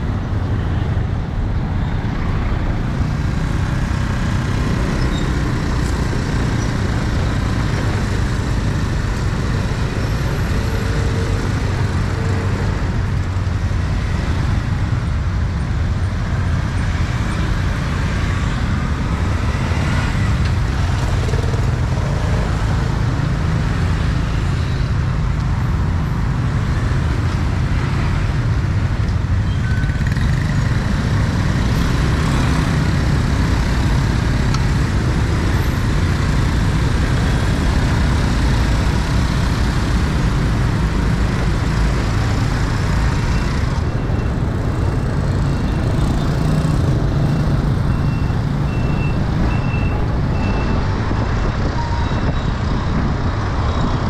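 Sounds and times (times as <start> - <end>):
passing cars: 0.0 - 54.0
scooter engines rumbling: 0.0 - 54.0.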